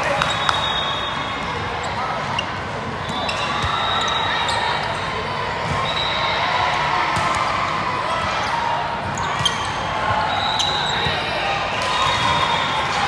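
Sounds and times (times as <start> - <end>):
hubbub of echoing voices: 0.0 - 13.0.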